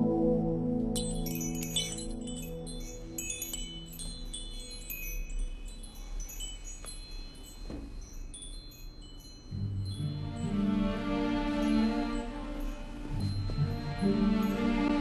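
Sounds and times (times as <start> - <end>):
low sustained music notes: 0.0 - 15.0
wind chimes tinkling: 0.9 - 15.0.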